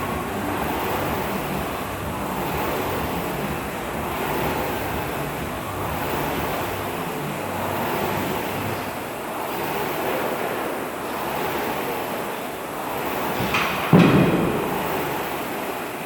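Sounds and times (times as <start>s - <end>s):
rowing machine flywheel whooshing: 0.0s - 16.0s.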